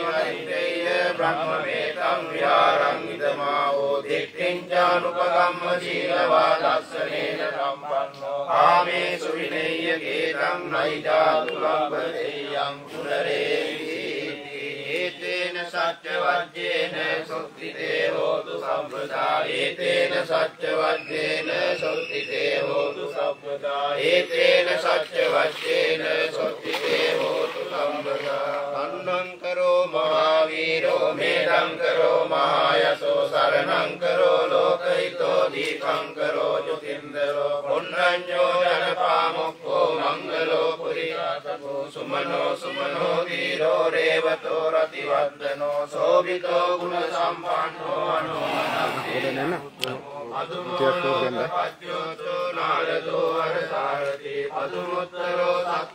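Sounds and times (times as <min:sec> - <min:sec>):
continuous recited chanting: 0:00.0 - 0:55.9.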